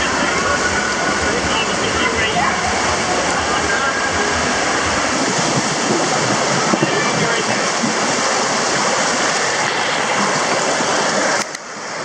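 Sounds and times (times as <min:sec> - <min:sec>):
water rushing down slide: 0:00.0 - 0:12.0.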